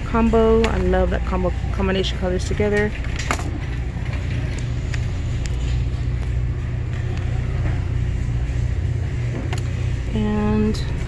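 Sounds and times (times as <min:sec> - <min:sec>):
low rumble of store noise: 0:00.0 - 0:11.0.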